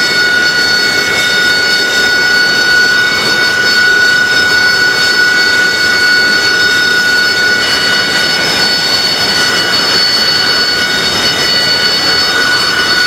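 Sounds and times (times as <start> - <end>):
jet engine running: 0.0 - 13.0.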